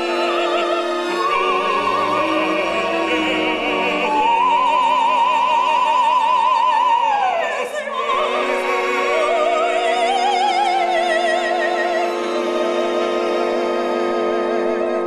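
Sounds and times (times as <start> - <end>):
instrumental accompaniment: 0.0 - 6.1, 7.9 - 15.0
operatic soprano singing: 0.0 - 15.0.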